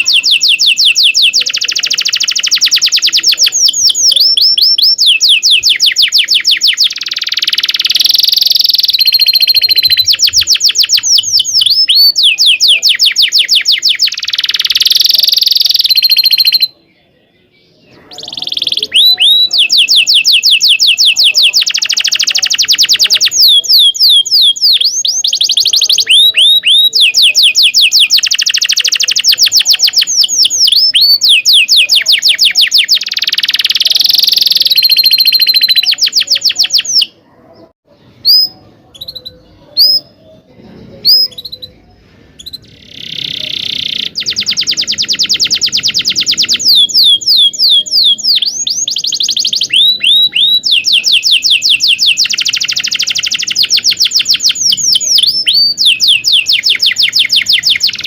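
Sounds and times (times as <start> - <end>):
canary chirps: 0.0 - 58.0
canary singing trills: 0.0 - 58.0.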